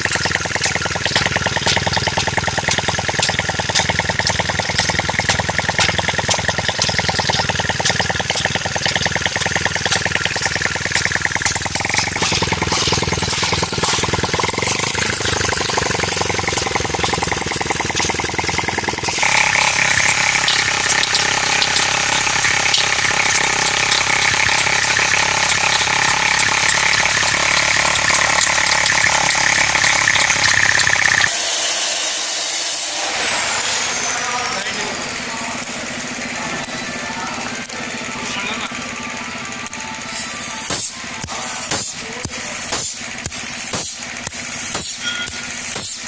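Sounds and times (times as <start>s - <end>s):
small engine running with rattle: 0.0s - 46.0s.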